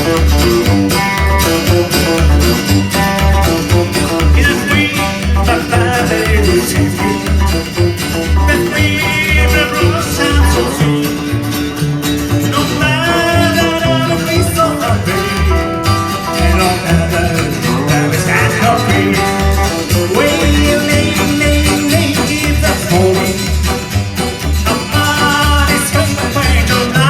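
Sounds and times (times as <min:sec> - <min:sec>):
drums with steady kick beat: 0:00.0 - 0:11.8, 0:12.6 - 0:27.0
bass: 0:00.0 - 0:27.0
guitars: 0:00.0 - 0:27.0
melodic lead line: 0:00.0 - 0:27.0.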